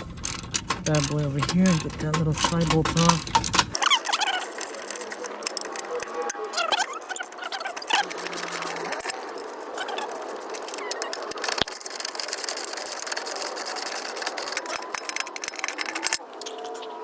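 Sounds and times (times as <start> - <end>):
ratchet wrench clicking: 0.0 - 16.2.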